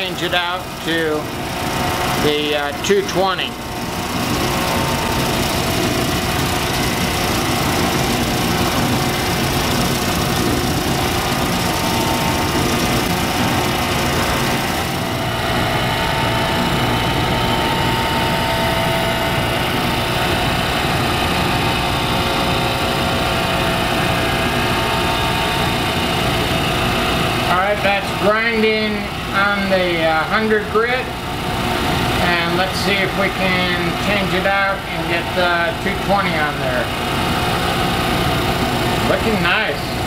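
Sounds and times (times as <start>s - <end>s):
polishing machine motor running: 0.0s - 40.0s.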